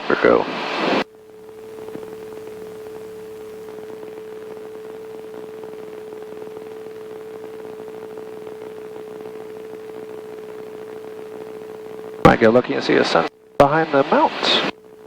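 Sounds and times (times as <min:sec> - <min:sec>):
faint hiss: 0:00.0 - 0:14.9
steady intercom hum: 0:00.0 - 0:15.0.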